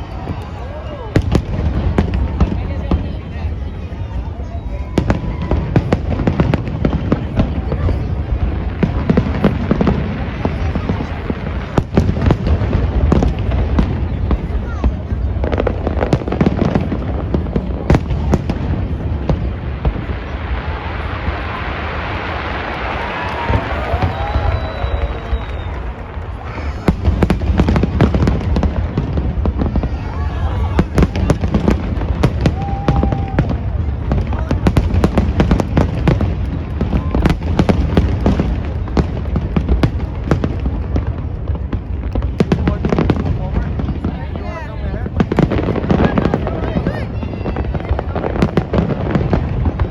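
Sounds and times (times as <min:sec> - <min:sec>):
crowd noise: 0:00.0 - 0:49.9
fireworks bangs and crackles: 0:00.0 - 0:49.9.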